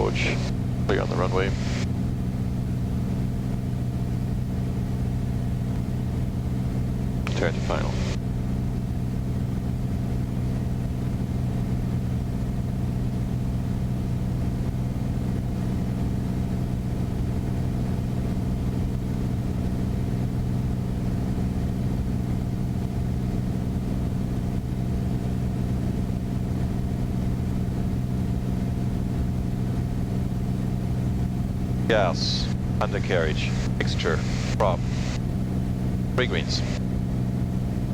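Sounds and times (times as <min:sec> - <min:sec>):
propeller plane engine droning: 0:00.0 - 0:37.9.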